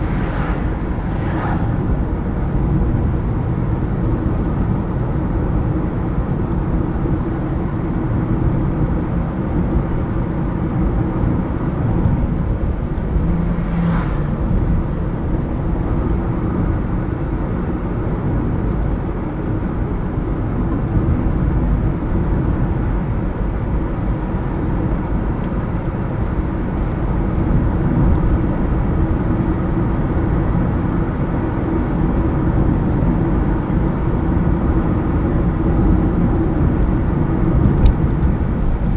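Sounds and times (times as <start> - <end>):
car engine rumble: 0.0 - 38.9
tyre road noise: 0.0 - 38.9.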